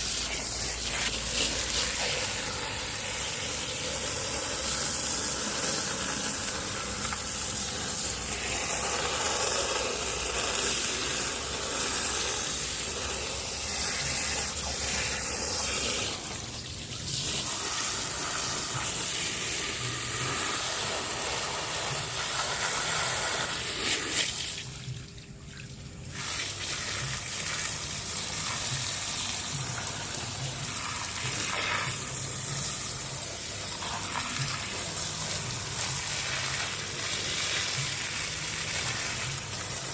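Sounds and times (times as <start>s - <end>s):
pressure washer spray hissing: 0.0s - 24.7s, 26.1s - 39.9s.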